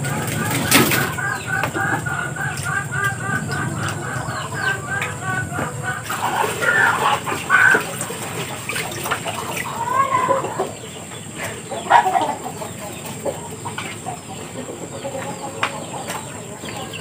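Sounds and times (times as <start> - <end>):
poultry clucking: 0.0 - 17.0.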